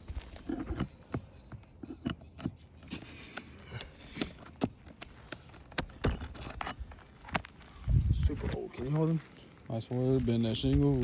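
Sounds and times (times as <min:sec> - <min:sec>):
roof shingles crackling and scraping: 0:00.0 - 0:11.0.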